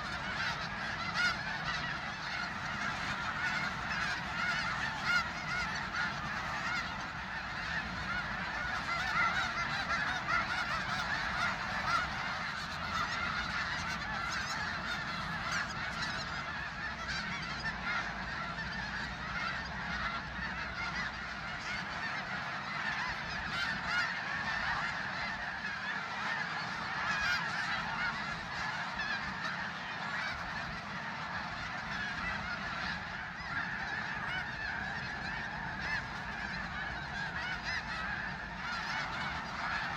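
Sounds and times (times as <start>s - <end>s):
geese honking: 0.0s - 39.9s.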